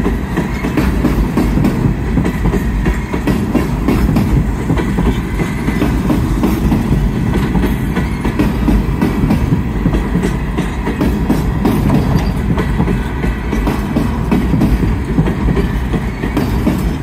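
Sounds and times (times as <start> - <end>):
rumble of train wheels on rail: 0.0 - 17.0
wheels clicking over rail joints: 0.0 - 17.0.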